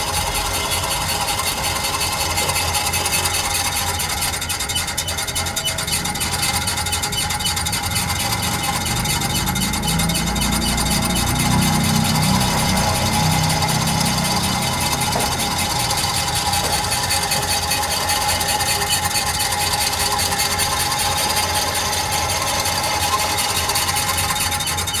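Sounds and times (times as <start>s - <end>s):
steady mechanical tone: 0.0s - 25.0s.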